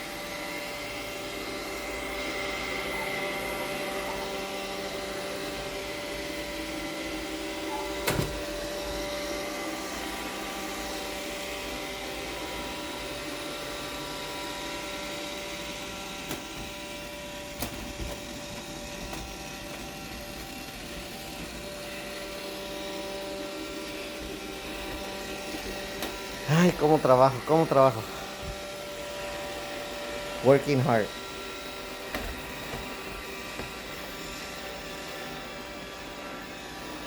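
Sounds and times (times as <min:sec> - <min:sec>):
robot vacuum whirring: 0:00.0 - 0:37.0.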